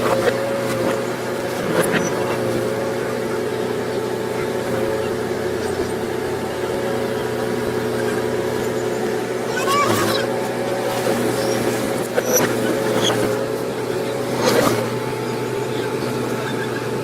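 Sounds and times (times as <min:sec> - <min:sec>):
diesel engine running steadily: 0:00.0 - 0:17.0.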